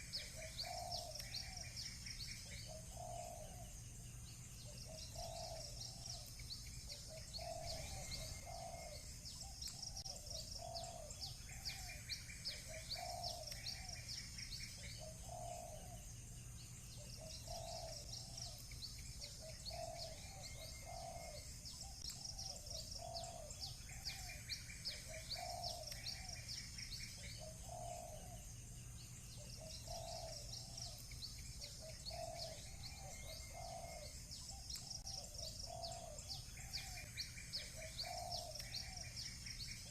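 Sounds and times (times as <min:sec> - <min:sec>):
doves cooing: 0:00.0 - 0:03.8, 0:04.6 - 0:16.1, 0:17.0 - 0:28.5, 0:29.3 - 0:39.9
small birds chirping: 0:00.0 - 0:39.9.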